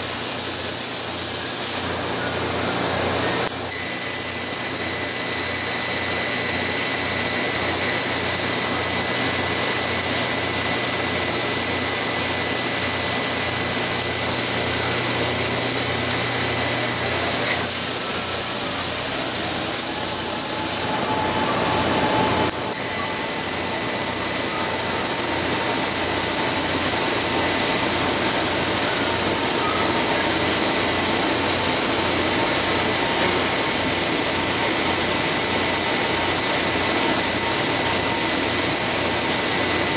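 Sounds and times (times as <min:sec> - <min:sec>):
faint steady whine: 0:00.0 - 0:39.9
gas jet hissing: 0:00.0 - 0:39.9
low machine hum: 0:01.3 - 0:39.9.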